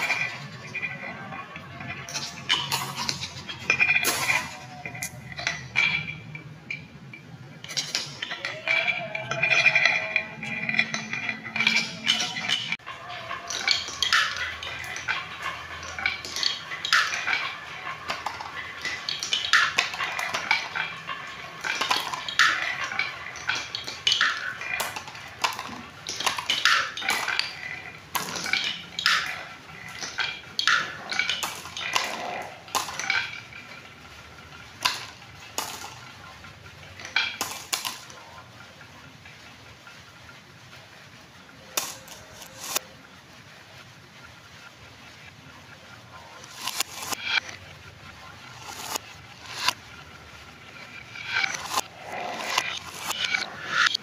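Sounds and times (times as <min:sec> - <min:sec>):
marbles clacking against wood: 0:00.0 - 0:40.1, 0:41.4 - 0:43.0, 0:45.9 - 0:54.0
marbles rolling on wooden tracks: 0:00.0 - 0:54.0.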